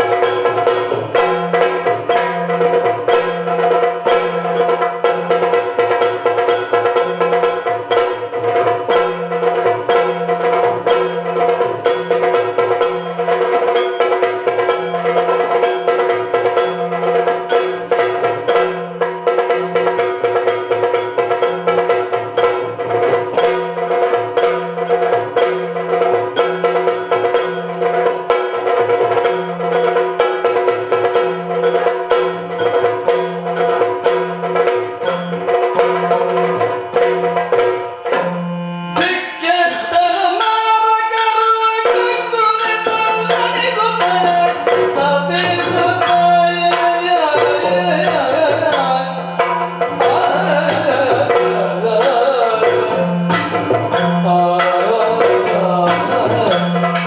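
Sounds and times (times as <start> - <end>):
drum strokes: 0.0 - 57.0.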